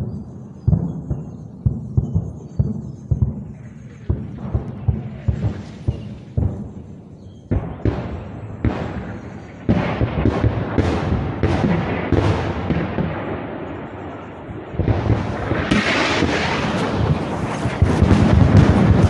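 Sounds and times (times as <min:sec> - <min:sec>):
artillery booms: 0:00.0 - 0:19.0.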